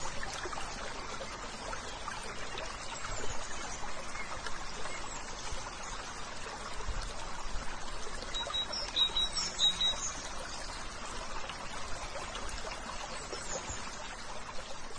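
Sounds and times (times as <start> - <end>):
stream water flowing: 0.0 - 14.9.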